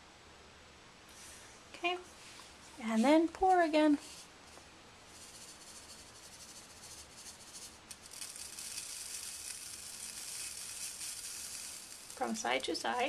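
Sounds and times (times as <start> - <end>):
tiny beads pouring hiss: 2.3 - 13.0.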